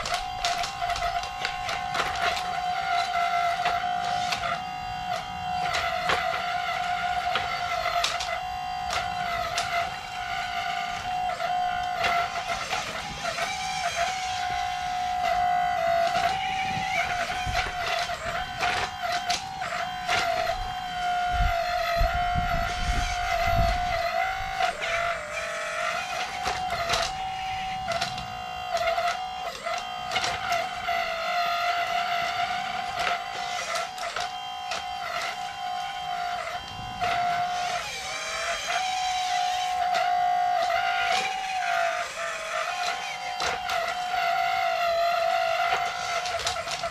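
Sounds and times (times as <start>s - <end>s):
small electric motor whining: 0.0s - 46.9s.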